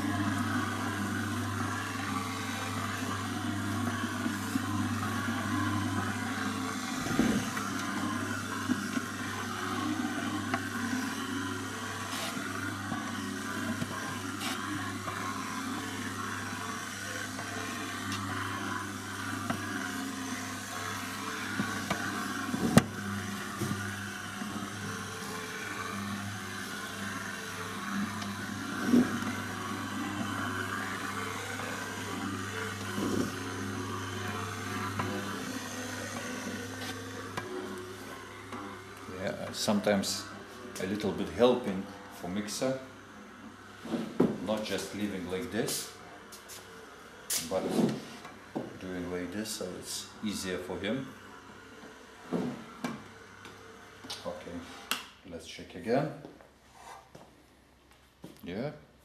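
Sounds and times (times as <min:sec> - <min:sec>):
dough mixer humming: 0:00.0 - 0:55.2.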